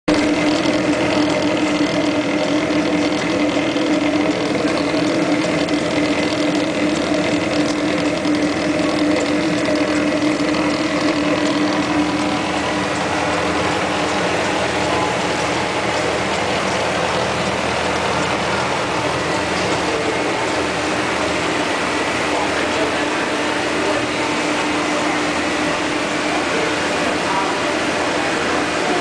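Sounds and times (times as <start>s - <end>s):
fast ticking of gears: 0.1s - 24.1s
printing press drone and hum: 0.1s - 29.0s.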